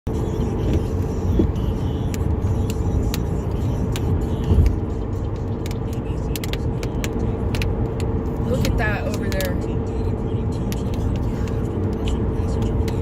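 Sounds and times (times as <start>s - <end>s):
road and engine rumble: 0.1s - 13.0s.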